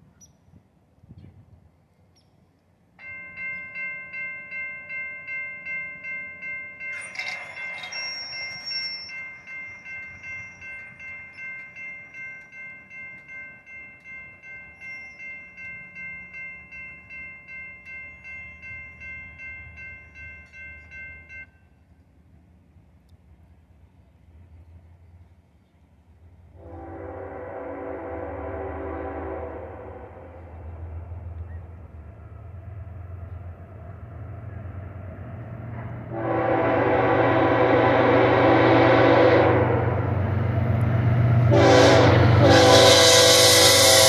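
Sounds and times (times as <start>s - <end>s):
railroad crossing bell ringing: 2.9s - 22.4s, 26.6s - 44.0s.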